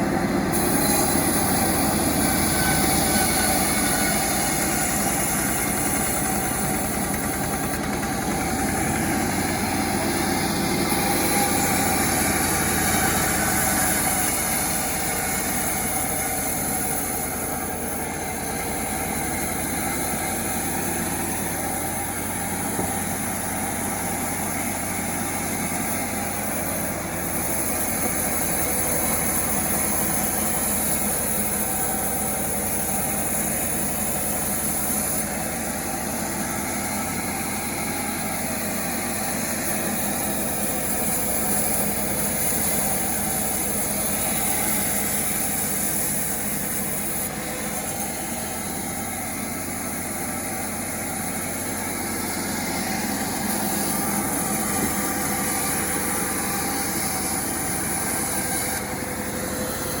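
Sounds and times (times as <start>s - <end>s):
small chainsaw engine running: 0.0s - 60.0s.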